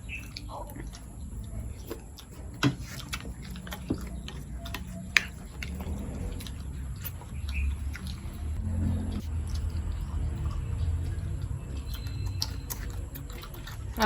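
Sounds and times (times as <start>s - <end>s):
chewing and dish clicks: 0.0s - 14.0s
low background rumble: 0.0s - 14.0s.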